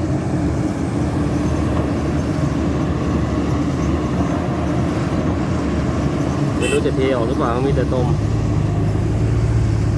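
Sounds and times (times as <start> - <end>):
heavy diesel machinery running: 0.0 - 9.9.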